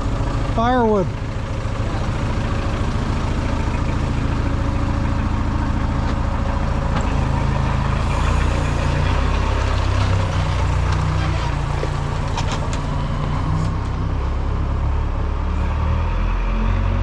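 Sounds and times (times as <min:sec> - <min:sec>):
engine running with low hum: 0:00.0 - 0:17.0.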